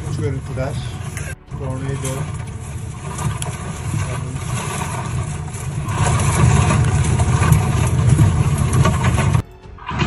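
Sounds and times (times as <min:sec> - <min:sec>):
storm rumble: 0:00.0 - 0:10.0.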